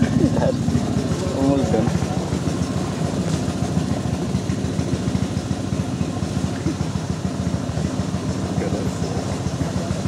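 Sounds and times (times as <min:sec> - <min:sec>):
small boat motor running: 0:00.0 - 0:10.0.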